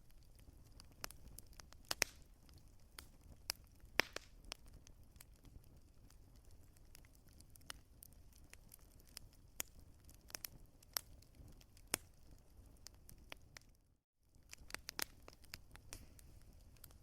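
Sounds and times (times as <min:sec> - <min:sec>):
soft low fire rumble: 0:00.0 - 0:17.0
wood fire crackling and popping: 0:00.0 - 0:17.0.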